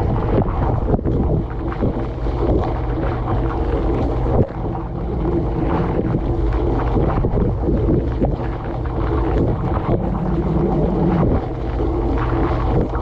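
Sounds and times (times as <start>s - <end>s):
dishwasher pump hum: 0.0s - 13.0s.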